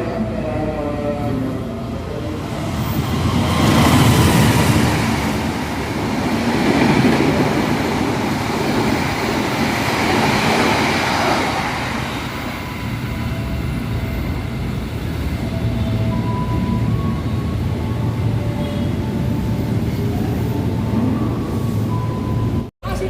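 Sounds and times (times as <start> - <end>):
train passing on rails: 0.0 - 23.0.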